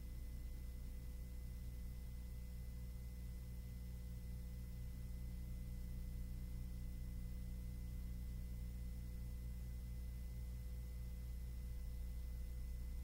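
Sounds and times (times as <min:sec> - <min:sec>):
thin constant whine: 0:00.0 - 0:13.0.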